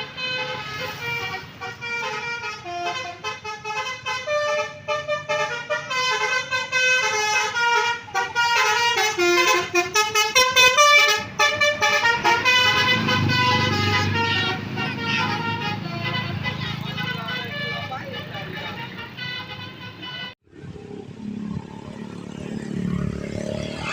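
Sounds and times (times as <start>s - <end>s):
musical bus horn melody: 0.0s - 20.4s.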